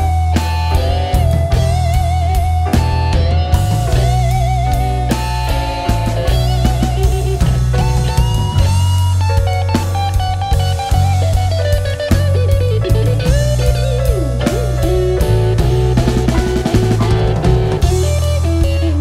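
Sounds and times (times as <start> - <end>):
drums: 0.0 - 19.0
electric bass: 0.0 - 19.0
lead electric guitar bent notes: 0.0 - 19.0.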